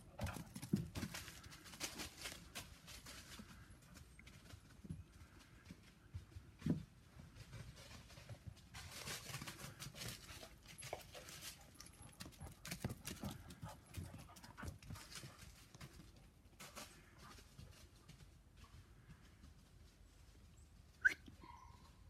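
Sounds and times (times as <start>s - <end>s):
rustling: 0.2s - 21.0s.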